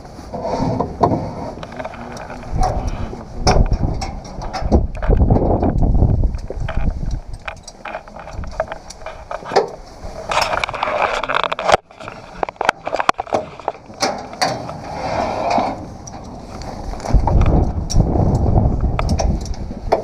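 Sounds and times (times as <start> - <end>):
rustling: 0.0 - 20.0
metallic clicks and clanks: 0.8 - 20.0.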